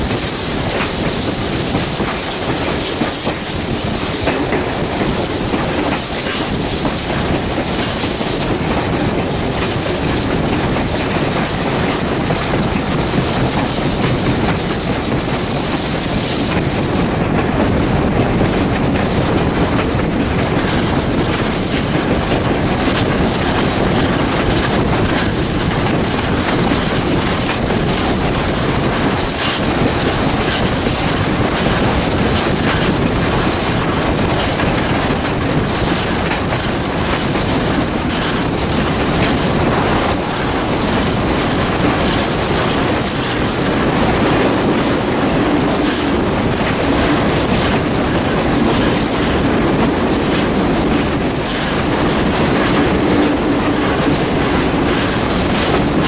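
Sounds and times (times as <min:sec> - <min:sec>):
steam train running: 0:00.0 - 0:56.0
wheels clattering over rail joints: 0:00.0 - 0:56.0.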